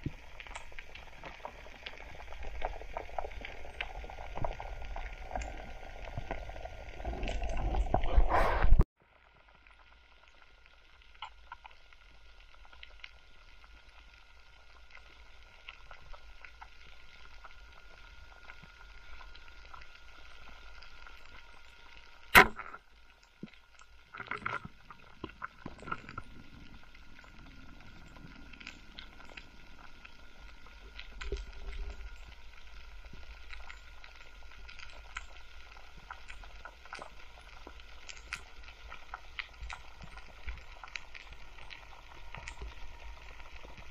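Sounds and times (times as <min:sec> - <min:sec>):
underwater reef crackle: 0:00.0 - 0:43.9.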